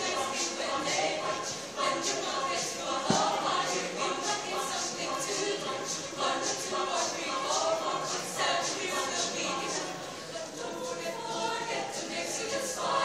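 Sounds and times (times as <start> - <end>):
mixed choir singing a cappella: 0.0 - 13.0.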